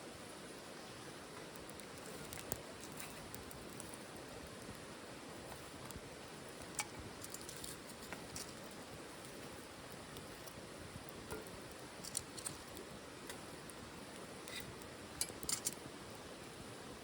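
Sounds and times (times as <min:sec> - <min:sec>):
wood fire crackling: 0:00.0 - 0:17.0
sharp pops of burning wood: 0:01.4 - 0:16.2.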